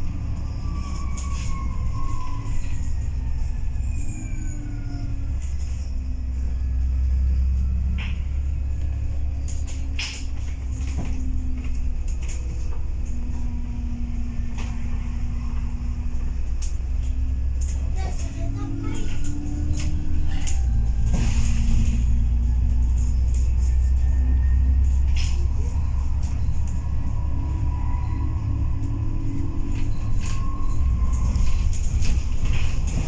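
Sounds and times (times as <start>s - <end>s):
bus engine drone: 0.0s - 33.0s
faint engine whine: 0.0s - 33.0s.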